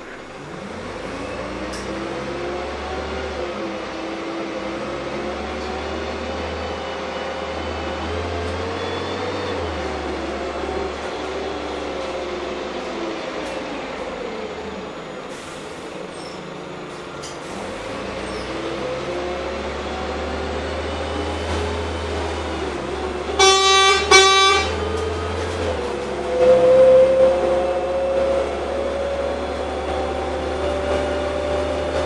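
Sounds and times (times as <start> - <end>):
bus engine drone: 0.0 - 32.0.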